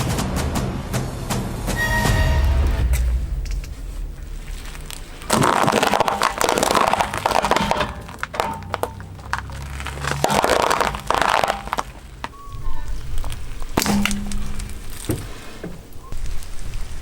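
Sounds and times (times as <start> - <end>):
car tyre crushing something brittle: 3.4 - 17.0.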